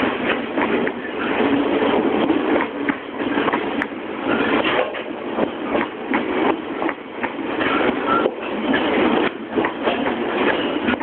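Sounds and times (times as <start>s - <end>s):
freight train rolling past: 0.0s - 11.0s
wheels clacking over rail joints: 0.0s - 11.0s.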